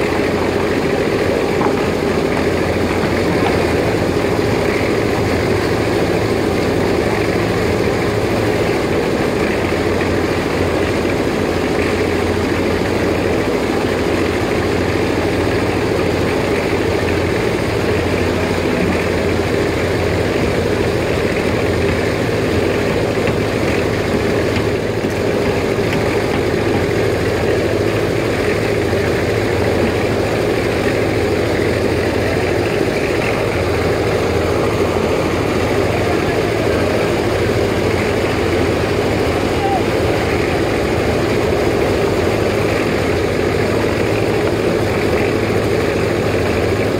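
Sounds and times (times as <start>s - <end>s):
excavator diesel engine drone: 0.0s - 46.9s.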